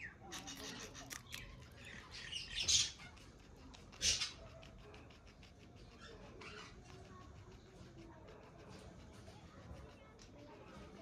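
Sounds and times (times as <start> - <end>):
guinea pig chewing: 0.1 - 11.0.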